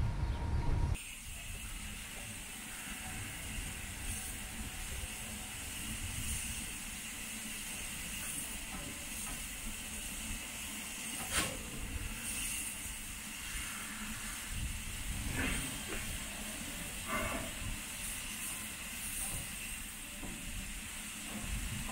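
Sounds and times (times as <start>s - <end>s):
steam locomotive hissing: 1.0s - 21.9s.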